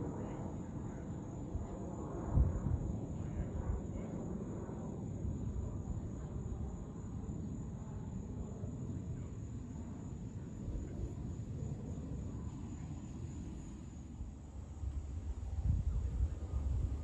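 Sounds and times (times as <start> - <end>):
distant jet airliner rumble: 0.0 - 17.0
high insect drone: 0.0 - 17.0.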